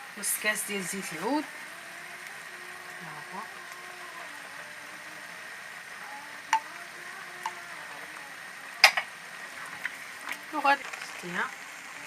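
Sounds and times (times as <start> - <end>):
greens sizzling in oil: 0.0 - 12.0.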